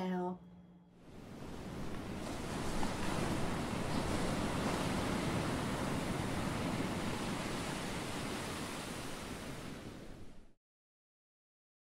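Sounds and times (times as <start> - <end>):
ocean surf washing on shore: 1.0 - 10.6.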